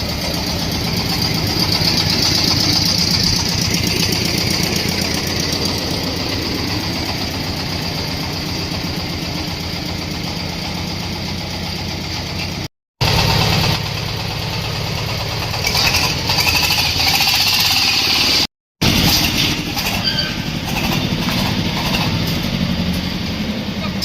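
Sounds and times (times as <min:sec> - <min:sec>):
rushing rattling noise: 0:00.0 - 0:23.5
corn sheller engine running: 0:00.0 - 0:24.0.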